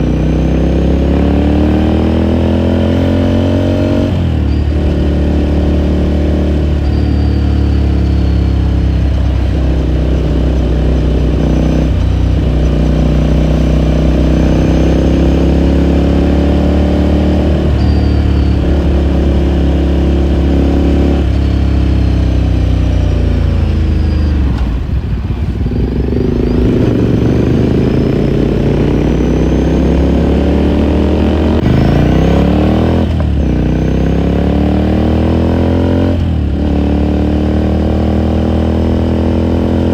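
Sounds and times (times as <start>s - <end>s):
motorcycle accelerating through gears: 0.0s - 39.9s.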